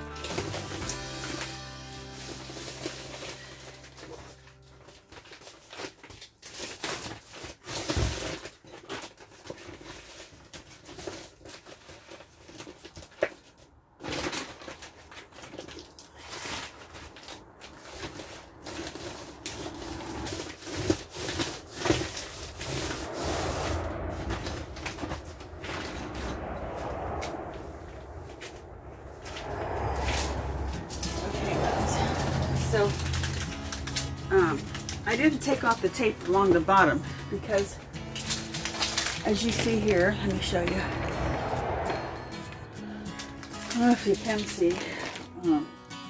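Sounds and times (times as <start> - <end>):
plastic tarp rustling: 0.0 - 45.6.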